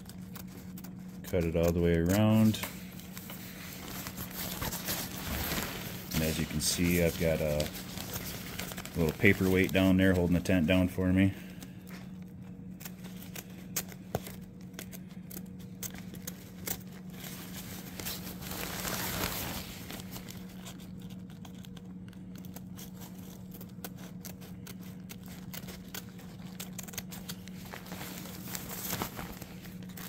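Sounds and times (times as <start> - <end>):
fabric crinkling and rustling: 0.0 - 30.0.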